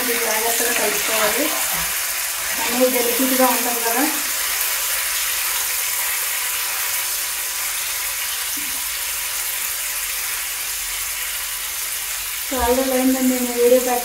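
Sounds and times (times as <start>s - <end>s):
cheese frying in oil: 0.0s - 14.0s.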